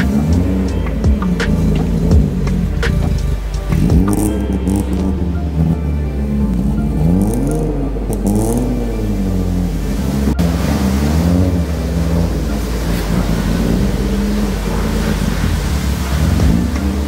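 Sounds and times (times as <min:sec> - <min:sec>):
background music: 0:00.0 - 0:17.0
car engine pulling away: 0:00.0 - 0:17.0.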